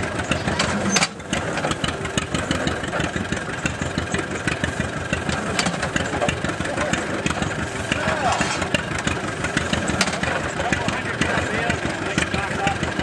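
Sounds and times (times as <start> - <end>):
engine chugging: 0.0 - 13.0
hay press clattering and knocking: 0.0 - 13.0.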